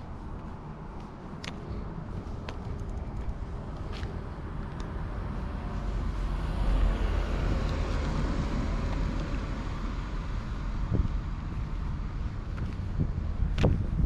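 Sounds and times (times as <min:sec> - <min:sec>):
car passing: 0:00.0 - 0:12.8.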